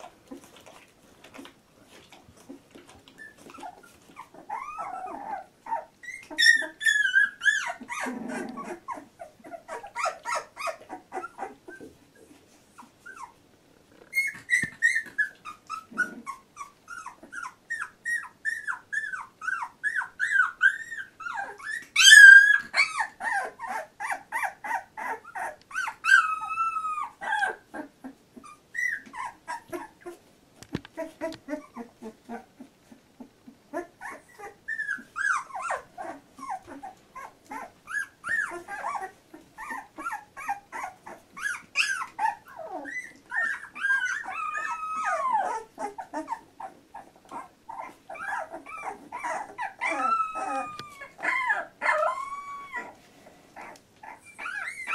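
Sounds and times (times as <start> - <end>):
puppies whimpering and squeaking: 0.0 - 54.9.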